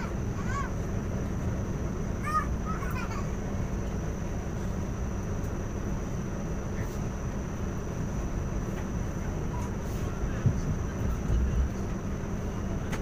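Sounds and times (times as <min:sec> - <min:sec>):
low rumble of moving train: 0:00.0 - 0:13.0.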